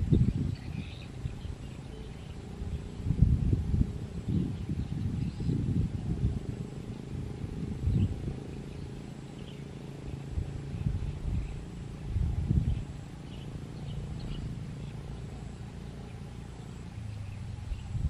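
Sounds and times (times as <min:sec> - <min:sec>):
faint bird chirps: 0:00.0 - 0:03.2, 0:04.2 - 0:18.0
low uneven rumble with bumps: 0:00.0 - 0:18.0.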